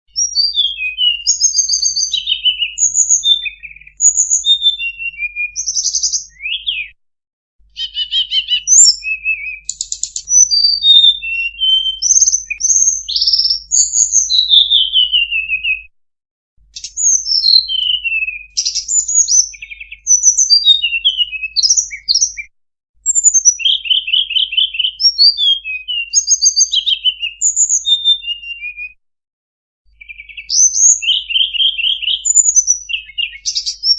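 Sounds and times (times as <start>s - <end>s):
bird song with whistles and trills: 0.1s - 7.0s, 7.7s - 16.0s, 16.7s - 29.0s, 29.9s - 33.9s.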